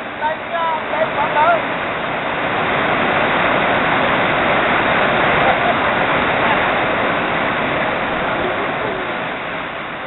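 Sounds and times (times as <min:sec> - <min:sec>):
floodwater rushing over weir: 0:00.0 - 0:10.0.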